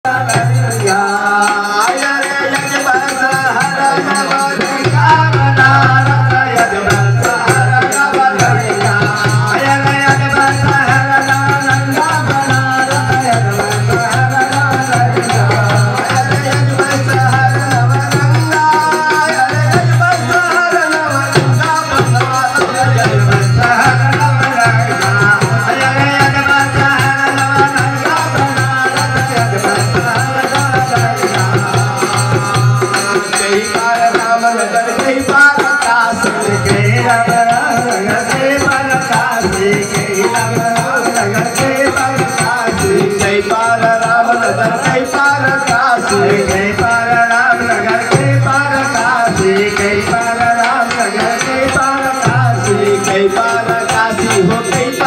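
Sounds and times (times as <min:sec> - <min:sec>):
dholak drum rhythm: 0:00.0 - 0:55.0
men singing into microphones: 0:00.0 - 0:55.0.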